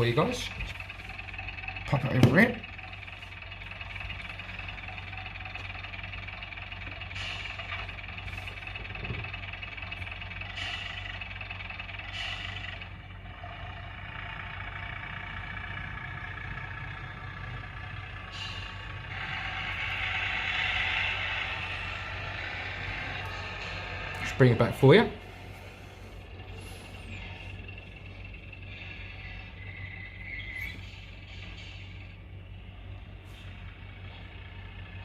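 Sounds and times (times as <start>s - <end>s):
diesel train engine from small speaker: 0.0s - 35.0s.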